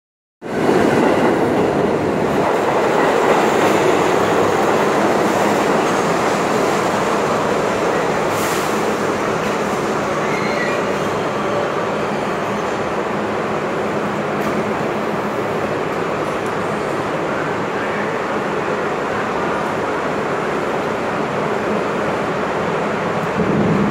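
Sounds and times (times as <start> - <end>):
subway train rumbling past: 0.4 - 23.9.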